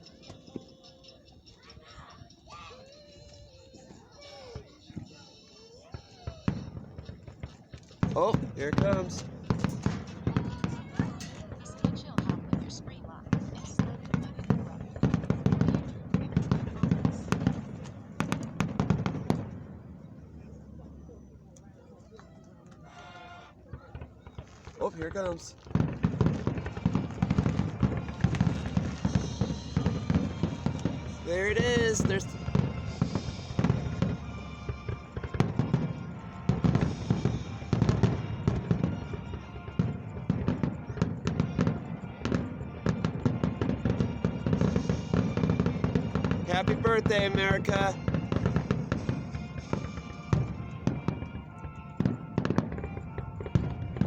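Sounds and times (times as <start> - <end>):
fireworks bangs and crackles: 2.5 - 54.0.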